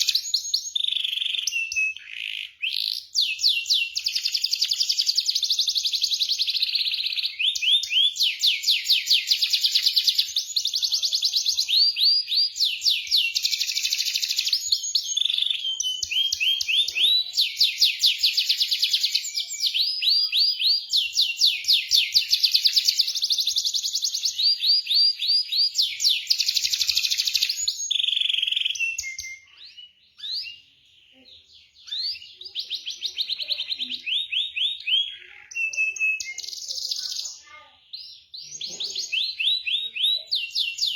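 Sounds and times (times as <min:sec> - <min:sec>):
canary singing rolling trills: 0:00.0 - 0:40.9.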